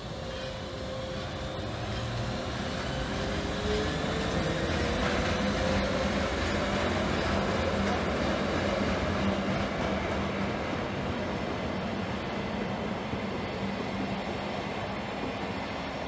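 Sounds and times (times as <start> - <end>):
electric locomotive motor whine: 0.0 - 15.7
train rumble: 0.0 - 16.0.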